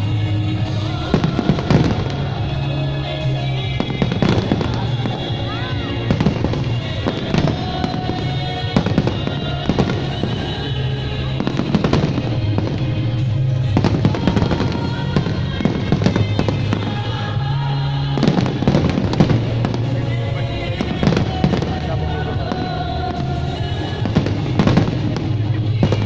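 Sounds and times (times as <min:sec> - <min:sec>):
fireworks bursting and crackling: 0:00.0 - 0:26.0
loud music: 0:00.0 - 0:26.0.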